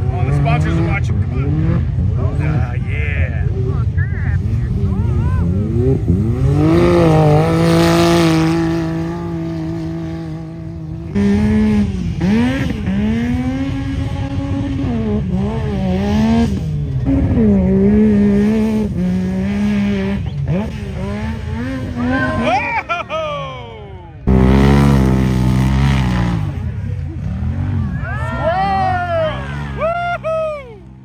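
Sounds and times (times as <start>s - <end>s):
engine revving: 0.0s - 22.9s, 24.2s - 31.0s
engine at high steady rev: 0.0s - 31.0s.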